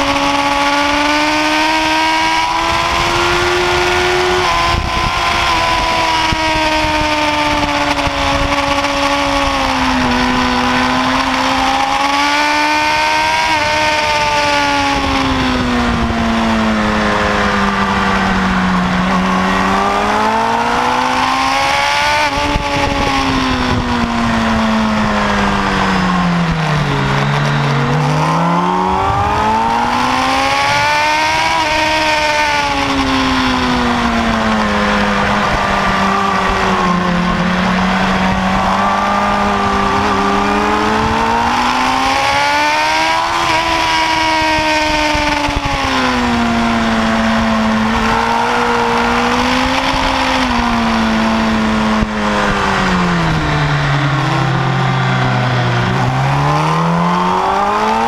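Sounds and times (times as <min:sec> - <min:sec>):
motorcycle engine at speed: 0:00.0 - 0:58.0
wind rush: 0:00.0 - 0:58.0.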